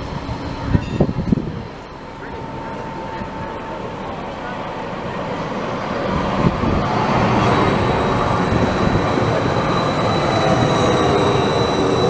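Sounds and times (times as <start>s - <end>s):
high-pitched whine: 0.0s - 12.0s
tram wheels rumbling on rails: 0.0s - 12.0s.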